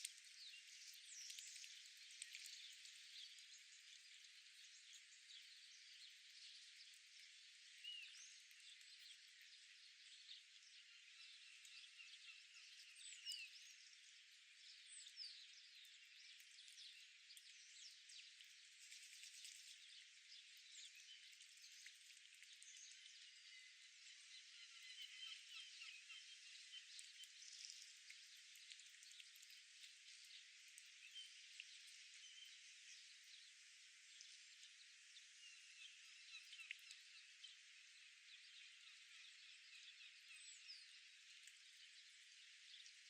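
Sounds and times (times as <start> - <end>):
soft steady hiss: 0.0 - 43.0.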